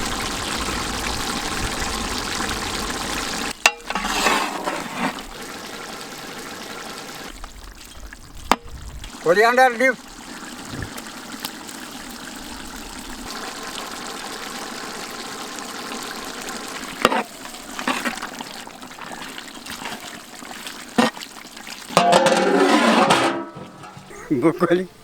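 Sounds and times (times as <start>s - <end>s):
curry bubbling in a pot: 0.0s - 22.5s.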